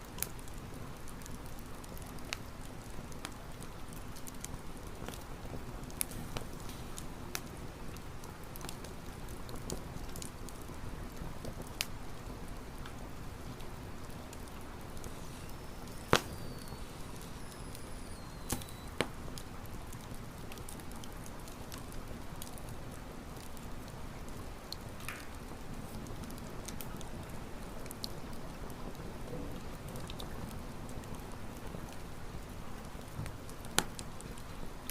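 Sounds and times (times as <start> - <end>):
campfire crackling and popping: 0.0 - 34.9
soft fire hiss: 0.0 - 34.9.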